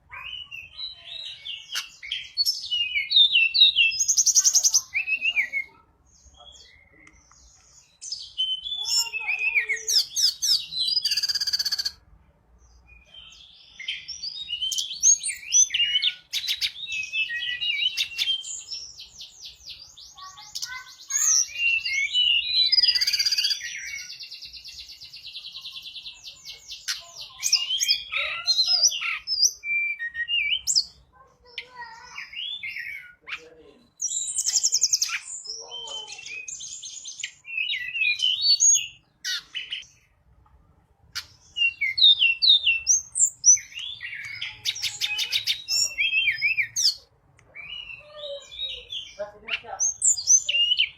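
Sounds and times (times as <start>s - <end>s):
bird singing chirps and trills: 0.0s - 40.2s, 41.1s - 50.9s.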